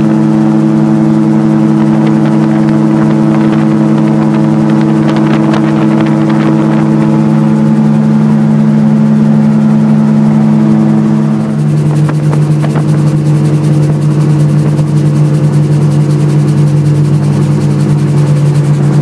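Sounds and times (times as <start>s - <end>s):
gyroplane engine and rotor running: 0.0s - 19.0s.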